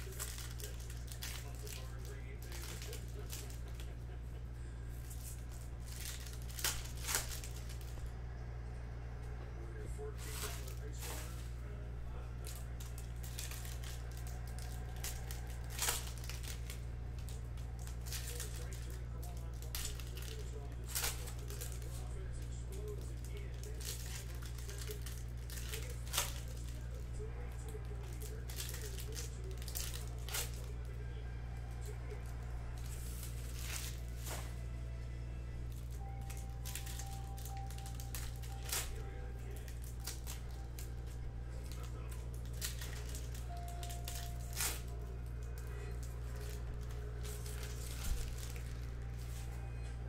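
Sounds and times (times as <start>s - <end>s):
foil wrapper crinkling and tearing: 0.0s - 4.3s, 4.9s - 8.0s, 9.8s - 34.7s, 35.7s - 49.7s
steady low hum: 0.0s - 50.0s.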